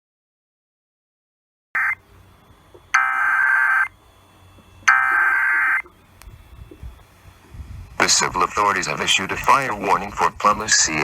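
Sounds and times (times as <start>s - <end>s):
faint receiver hiss: 1.8s - 11.0s
screeching digital data bursts: 1.8s - 11.0s.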